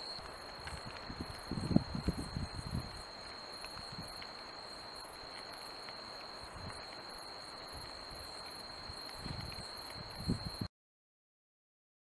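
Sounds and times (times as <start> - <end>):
insects chirping: 0.0 - 10.7
steady high whine and hiss: 0.0 - 10.7.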